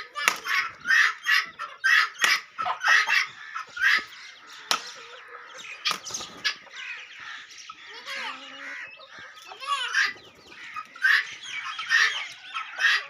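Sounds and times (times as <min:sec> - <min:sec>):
chickens calling and clucking: 0:00.0 - 0:13.0.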